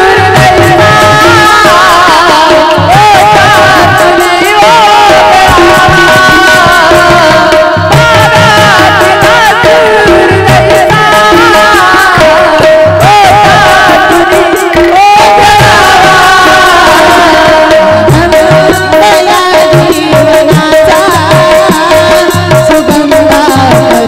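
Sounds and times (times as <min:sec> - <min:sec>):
person singing: 0:00.0 - 0:24.0.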